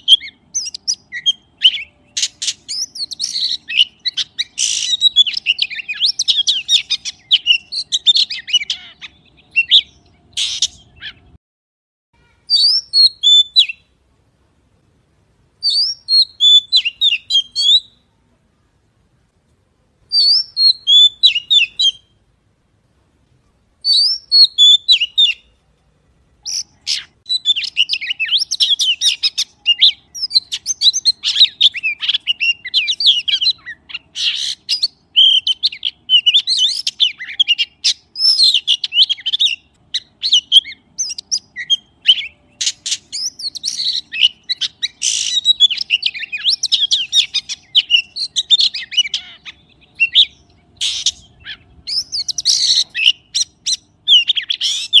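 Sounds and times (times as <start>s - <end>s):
magpie singing: 0.0s - 11.4s, 12.2s - 14.0s, 15.6s - 18.1s, 20.1s - 22.3s, 23.8s - 25.6s, 26.4s - 55.0s.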